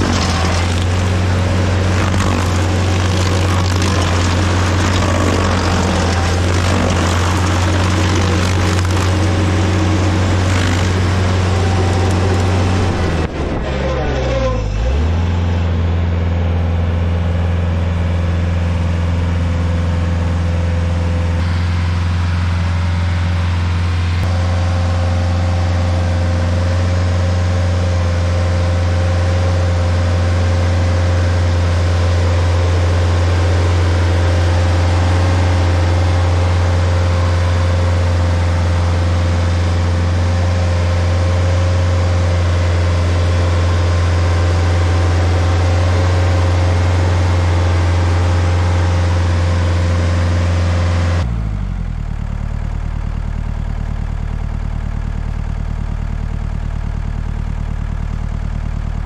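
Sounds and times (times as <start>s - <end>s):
stump grinder engine running: 0.0s - 59.0s.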